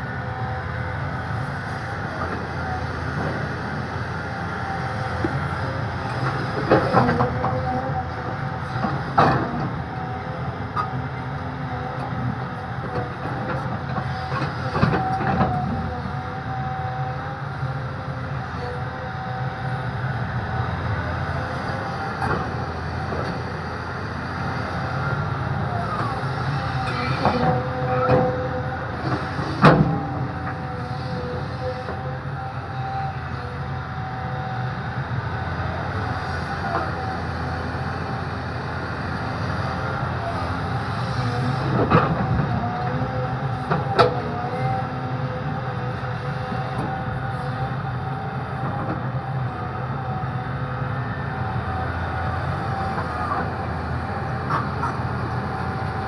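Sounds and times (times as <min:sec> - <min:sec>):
excavator engine running with whine: 0:00.0 - 0:56.0.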